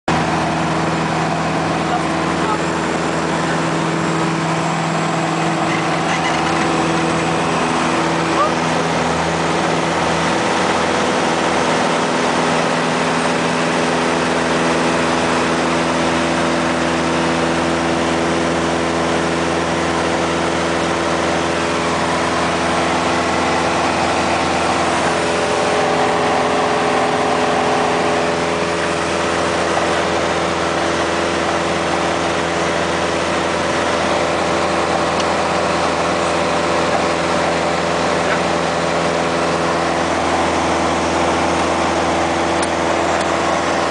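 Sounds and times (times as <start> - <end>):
plane engine and propeller droning: 0.1 - 43.9.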